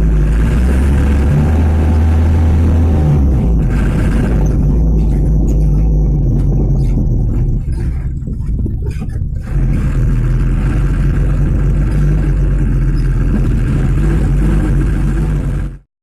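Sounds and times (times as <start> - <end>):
diesel truck engine running: 0.0 - 15.8.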